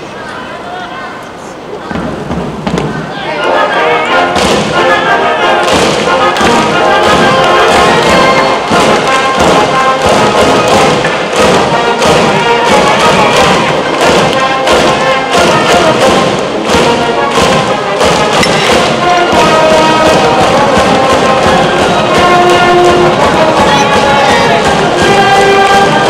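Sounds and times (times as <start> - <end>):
brass band playing: 2.5 - 26.0
drum beat: 4.4 - 26.0.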